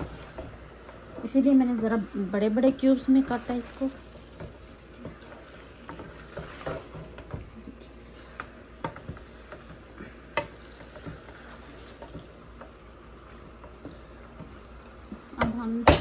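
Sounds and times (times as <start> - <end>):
faint sizzle of mince: 0.0 - 16.0
wooden spoon scraping a metal pot: 0.0 - 16.0.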